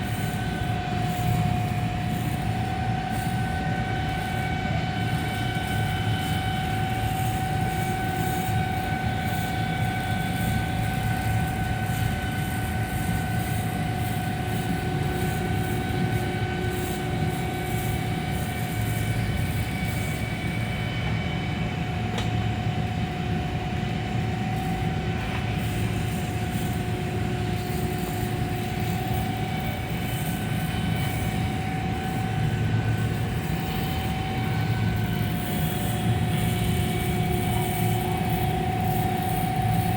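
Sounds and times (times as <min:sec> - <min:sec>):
high-pitched whine: 0:00.0 - 0:39.9
welding arc hum and hiss: 0:00.0 - 0:39.9.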